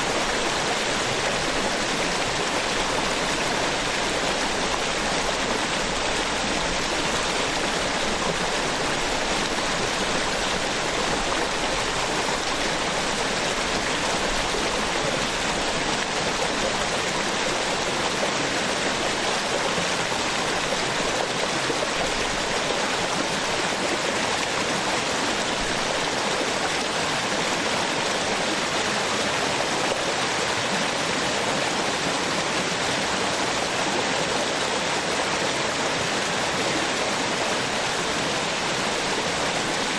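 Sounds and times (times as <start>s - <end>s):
waterfall splashing and rushing: 0.0s - 39.9s.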